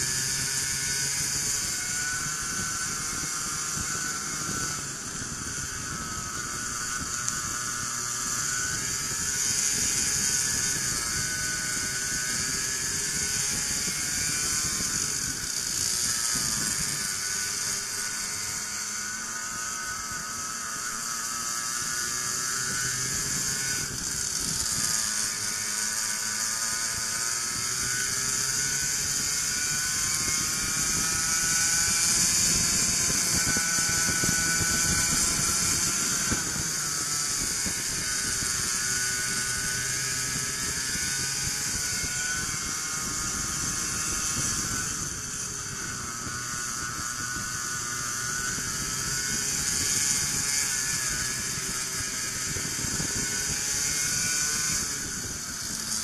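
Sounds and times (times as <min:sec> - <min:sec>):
go-kart engines revving: 0:00.0 - 0:56.0.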